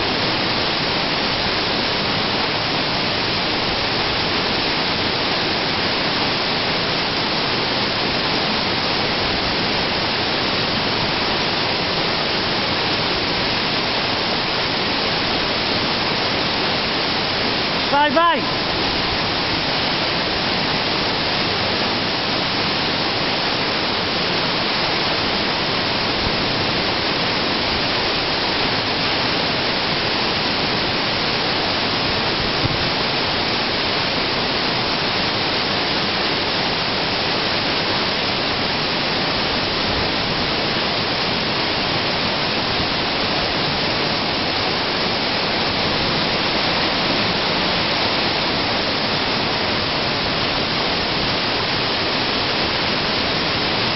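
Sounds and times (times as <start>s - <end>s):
waterfall rushing into pool: 0.0s - 53.9s.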